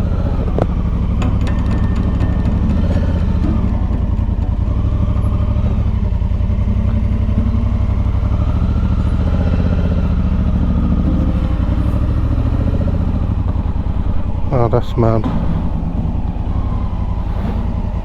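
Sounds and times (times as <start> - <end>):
vehicle engine running steadily: 0.0 - 18.0.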